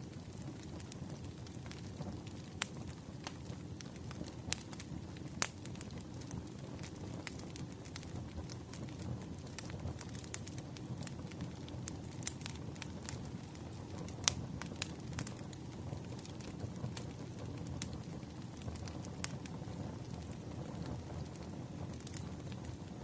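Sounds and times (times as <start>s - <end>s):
burning wood popping and snapping: 0.0s - 22.9s
low hiss of flames: 0.0s - 23.0s.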